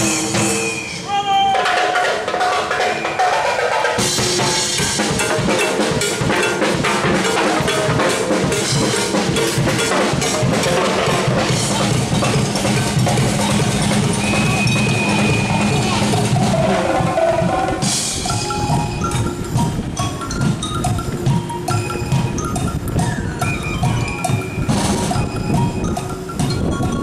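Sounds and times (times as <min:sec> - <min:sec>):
group drumming fast rhythm: 0:01.5 - 0:27.0.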